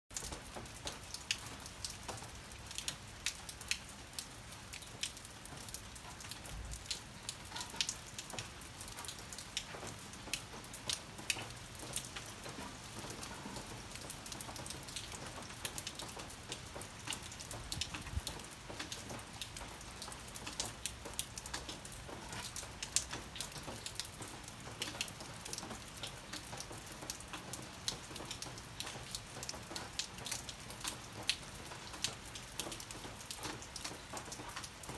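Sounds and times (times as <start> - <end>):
raindrop ticks: 0.1 - 34.9.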